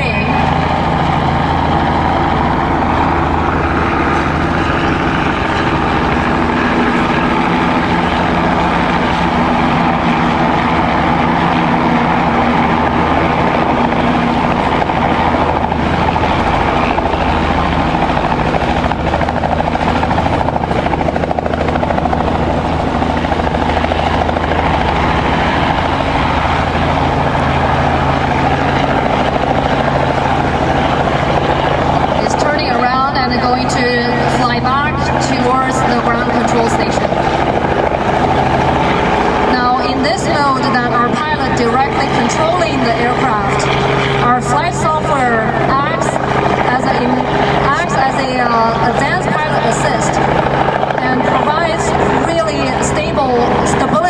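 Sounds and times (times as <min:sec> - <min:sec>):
helicopter engine and rotors droning: 0:00.0 - 0:54.0.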